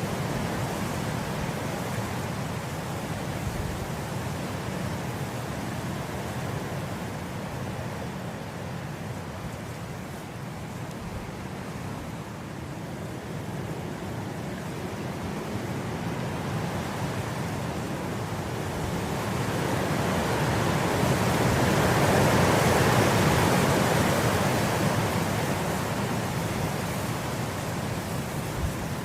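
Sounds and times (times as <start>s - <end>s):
wind blowing through grass: 0.0s - 29.0s.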